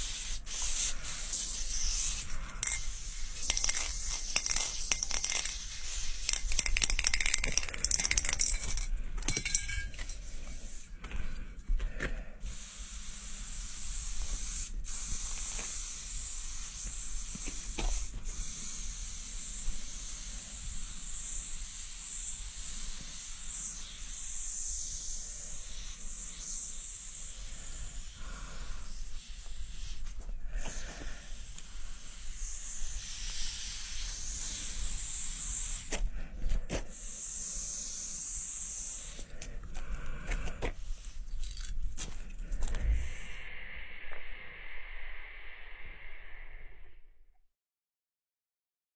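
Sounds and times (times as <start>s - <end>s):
spray paint can hissing: 0.0s - 10.9s, 12.4s - 36.1s, 36.8s - 41.9s.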